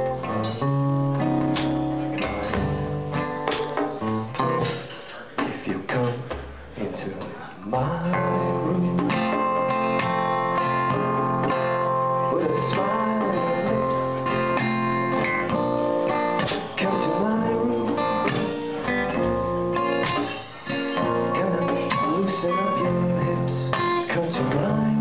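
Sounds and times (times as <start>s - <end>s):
drum kit: 0.0s - 7.4s, 8.1s - 25.0s
acoustic guitar strumming: 0.0s - 25.0s.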